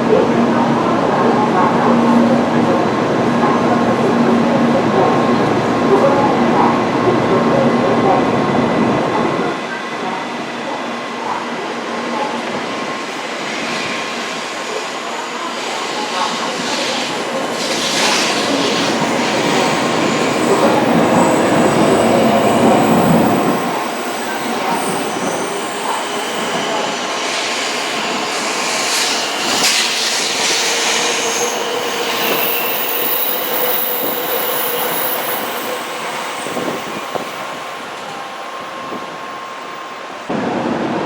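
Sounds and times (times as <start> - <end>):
train whining and squealing: 0.2 - 40.7
train running rumble: 0.2 - 40.8.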